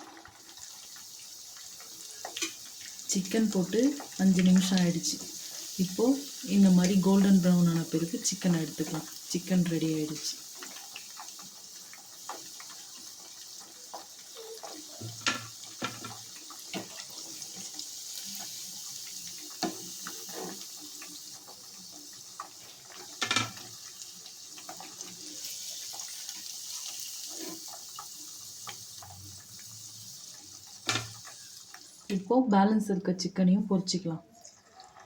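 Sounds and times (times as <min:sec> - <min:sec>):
chicken sizzling in hot oil: 0:00.0 - 0:32.4, 0:34.2 - 0:35.0.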